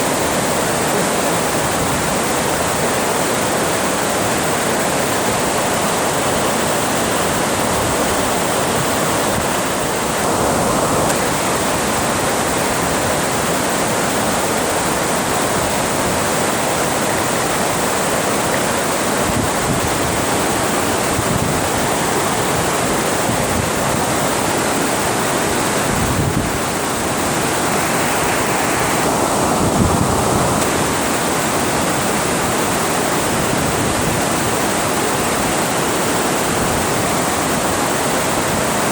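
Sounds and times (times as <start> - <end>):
water pouring over a dam: 0.0 - 38.9.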